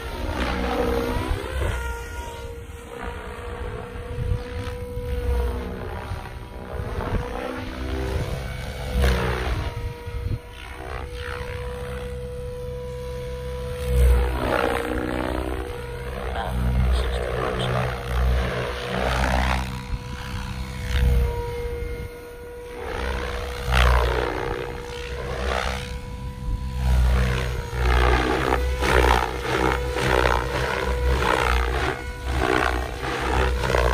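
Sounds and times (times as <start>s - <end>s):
helicopter rotor noise: 0.0s - 33.9s
rc helicopter motor whine: 0.0s - 33.9s.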